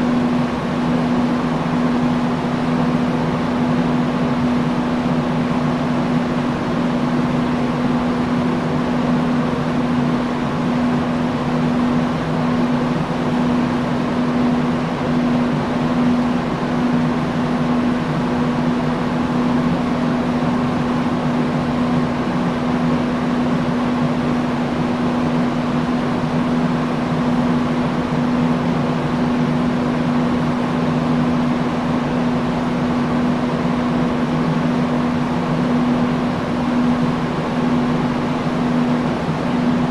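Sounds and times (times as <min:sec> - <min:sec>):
industrial fan running: 0:00.0 - 0:39.9.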